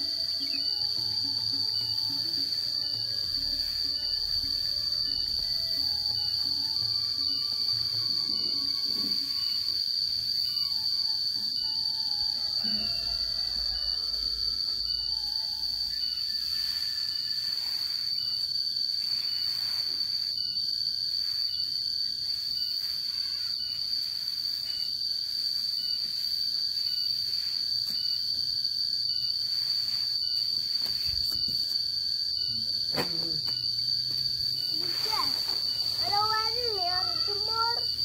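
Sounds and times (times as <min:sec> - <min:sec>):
insect trilling: 0:00.0 - 0:38.0
short insect chirp: 0:00.0 - 0:38.0.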